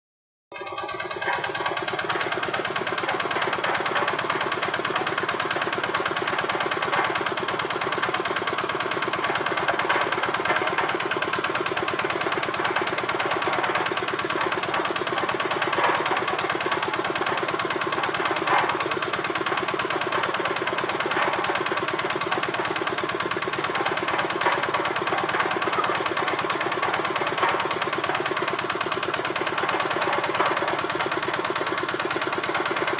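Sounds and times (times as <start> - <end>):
vehicle engine idling: 0.6 - 32.9.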